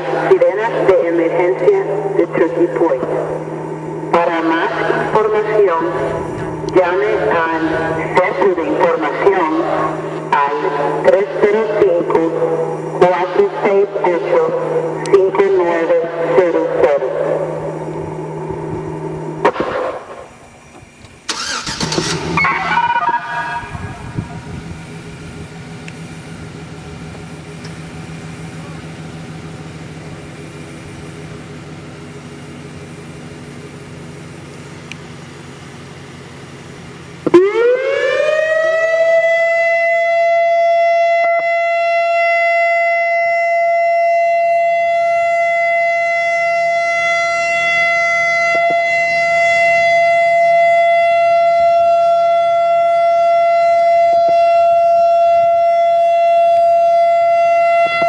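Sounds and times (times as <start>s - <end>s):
emergency warning siren: 0.0s - 20.6s, 21.3s - 32.8s, 37.2s - 58.0s
low steady hum: 0.0s - 58.0s.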